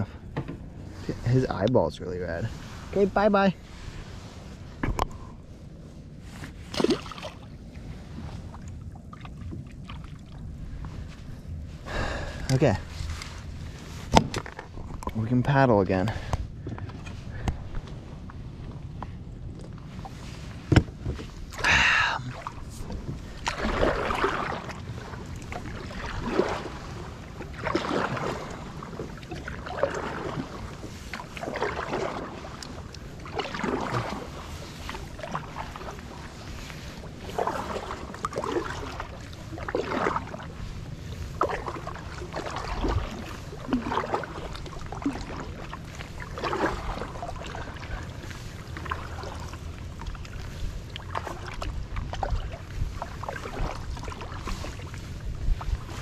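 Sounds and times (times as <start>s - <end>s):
wind rumbling on microphone: 0.0s - 56.0s
paddle splashing through water: 6.2s - 15.2s, 19.7s - 56.0s.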